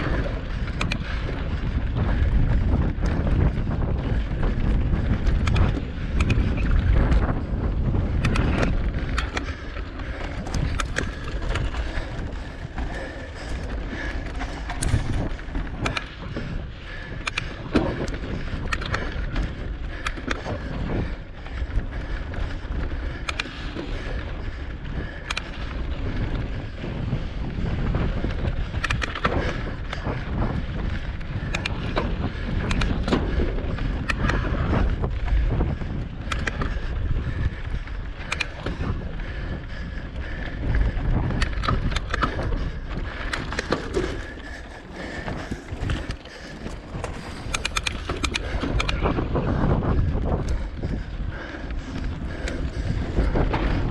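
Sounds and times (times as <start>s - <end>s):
bike rattling against rocks: 0.0s - 53.9s
bike tyres on dirt: 0.0s - 53.9s
wind buffeting microphone: 0.0s - 53.9s.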